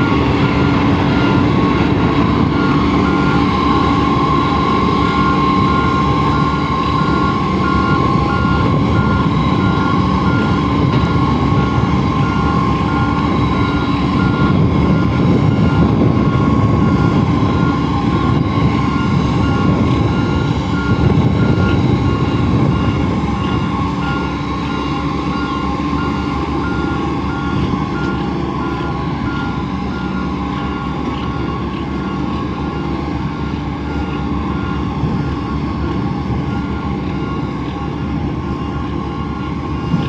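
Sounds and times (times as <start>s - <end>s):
diesel engine running: 0.0s - 40.0s
reversing alarm beeps: 0.0s - 40.0s.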